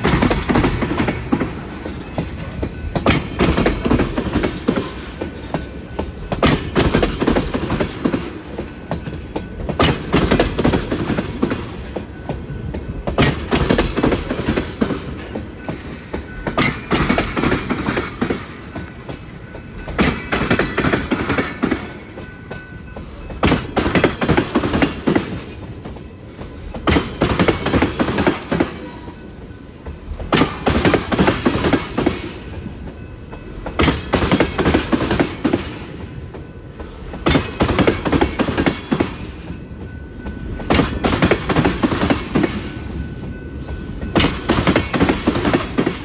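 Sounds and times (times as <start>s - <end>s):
rolling rumble of train: 0.0s - 46.0s
train wheels clacking over rail joints: 0.0s - 46.0s.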